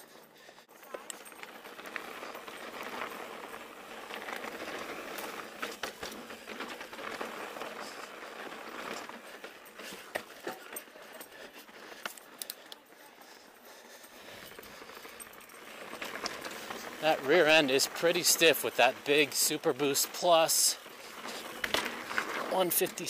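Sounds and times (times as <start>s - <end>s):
bike clicks and rattles: 0.0s - 23.0s
tyres crunching on dirt: 0.8s - 12.8s, 14.4s - 23.0s.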